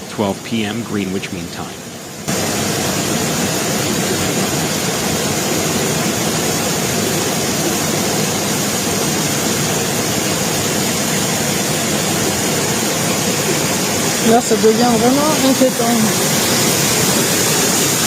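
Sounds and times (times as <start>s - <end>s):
rushing water roar: 0.0s - 18.0s.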